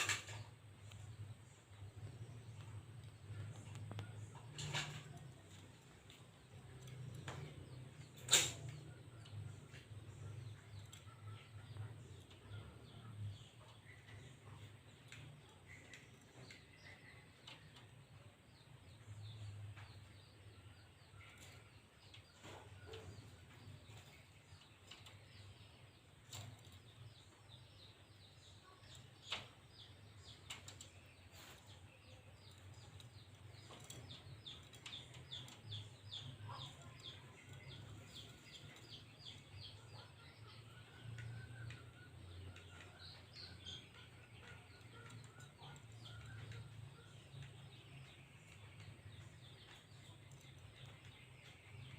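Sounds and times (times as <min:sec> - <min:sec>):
bird chirping: 0:00.0 - 0:51.9.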